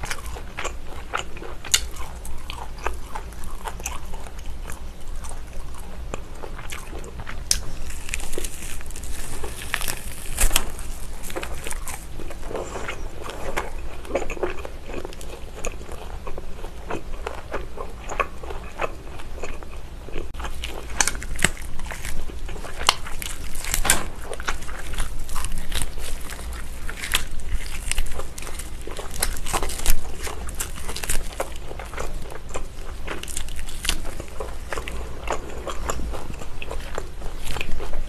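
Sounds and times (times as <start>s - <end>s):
biting and chewing meat: 0.0s - 38.0s.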